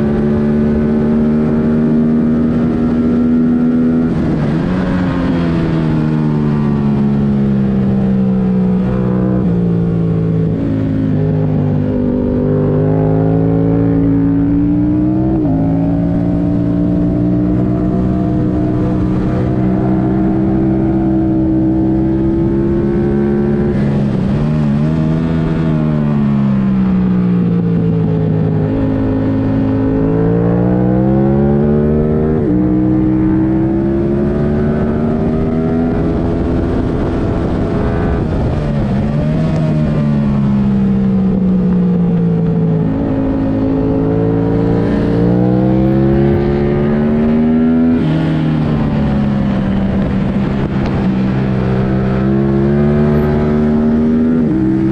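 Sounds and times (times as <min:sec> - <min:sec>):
motorcycle engine revving hard: 0:00.0 - 0:54.9.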